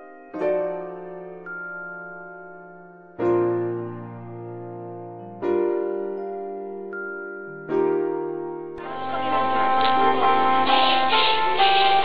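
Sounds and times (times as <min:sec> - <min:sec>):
electric keyboard chords: 0:00.0 - 0:12.0.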